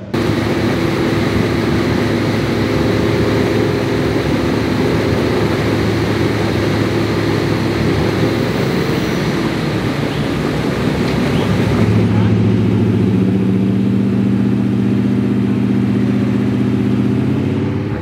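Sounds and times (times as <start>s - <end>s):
engine running at steady revs: 0.0s - 18.0s.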